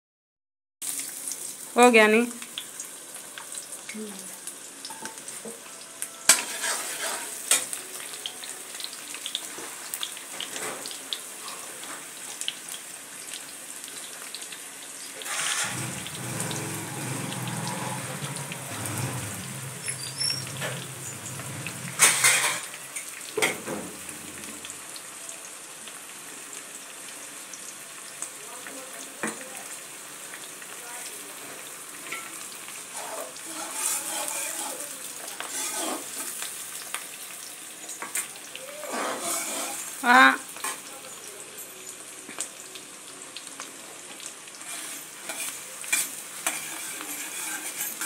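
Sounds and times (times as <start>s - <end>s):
food sizzling in pan: 0.8s - 48.0s.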